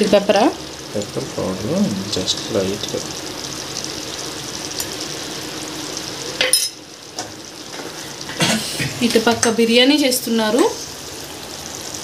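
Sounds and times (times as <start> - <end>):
curry sizzling and bubbling: 0.0 - 12.0.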